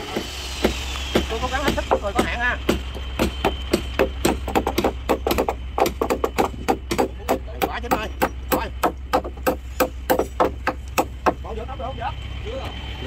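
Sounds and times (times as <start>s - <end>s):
hammers striking timber: 0.0s - 11.6s
steady low hum: 0.0s - 13.0s.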